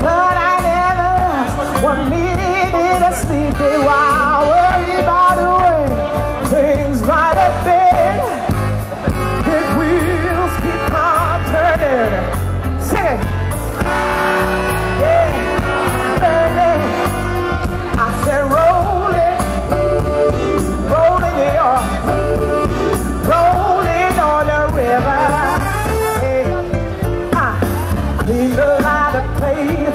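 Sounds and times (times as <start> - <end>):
band playing: 0.0 - 29.9
woman singing into microphone: 0.0 - 29.9.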